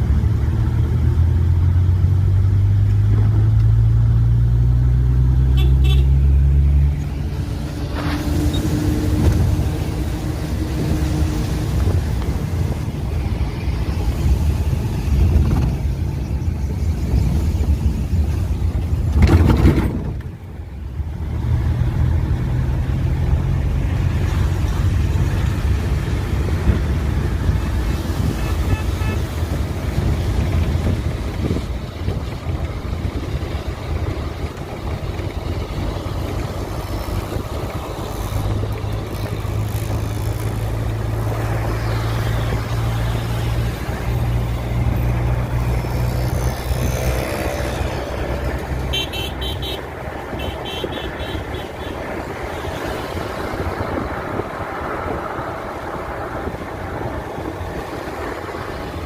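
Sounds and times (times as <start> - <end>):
moving vehicle rumble: 0.0 - 59.0.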